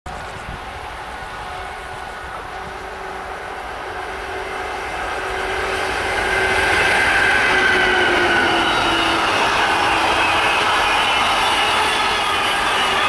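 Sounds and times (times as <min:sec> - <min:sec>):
electric locomotive whine: 0:00.1 - 0:13.0
freight wagons running past: 0:00.1 - 0:13.0.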